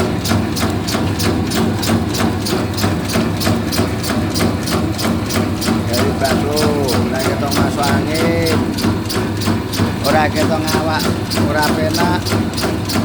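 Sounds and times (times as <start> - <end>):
machine motor hum: 0.0 - 13.0
regular machine clicks: 0.0 - 13.0.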